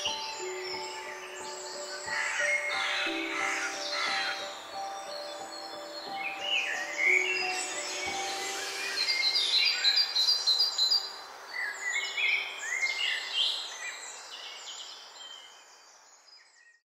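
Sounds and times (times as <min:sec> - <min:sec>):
songbirds chirping and warbling: 0:00.0 - 0:16.8.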